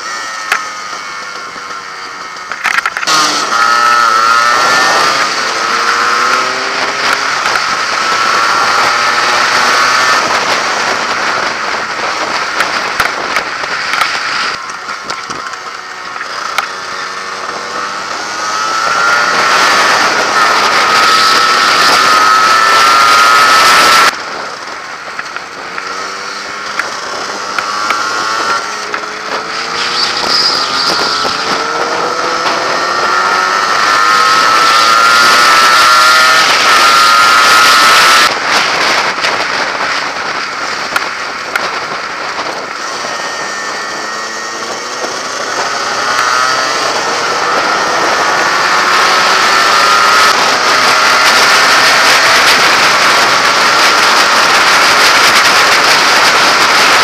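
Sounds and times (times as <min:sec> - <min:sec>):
motorcycle engine accelerating: 0:00.0 - 0:57.0
wind rushing: 0:03.0 - 0:57.0.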